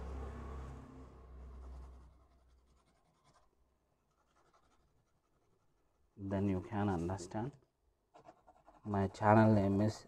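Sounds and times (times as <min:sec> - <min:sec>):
pencil scratching on paper: 0:01.4 - 0:10.0.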